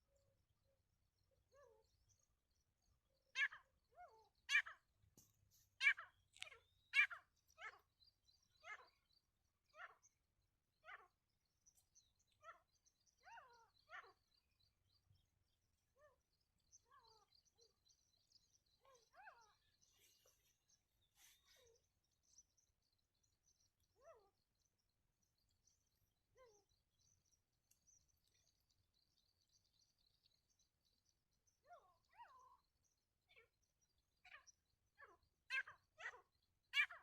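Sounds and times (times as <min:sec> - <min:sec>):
faint high bird chirping: 0:01.2 - 0:37.0.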